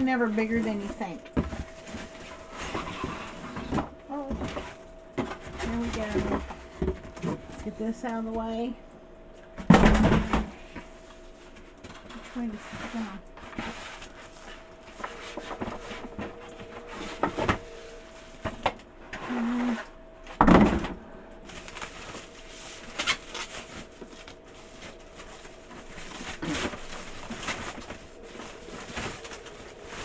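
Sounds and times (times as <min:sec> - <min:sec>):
packaging and parts handling: 0:00.0 - 0:07.8, 0:09.7 - 0:30.0.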